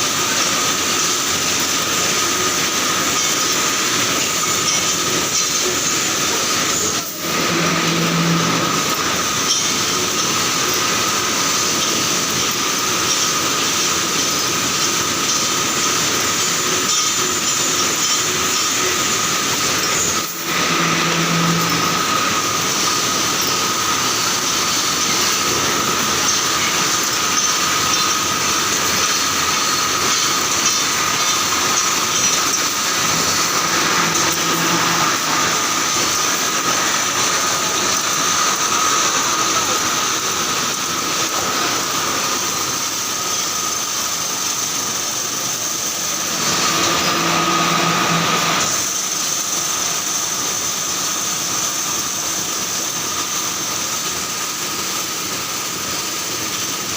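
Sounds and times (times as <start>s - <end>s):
welding machine clatter and whine: 0.0s - 56.9s.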